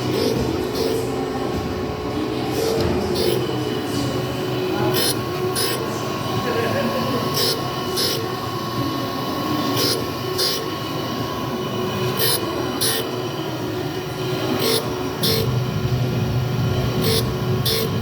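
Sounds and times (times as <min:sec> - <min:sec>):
grinder whine: 0:00.0 - 0:18.0.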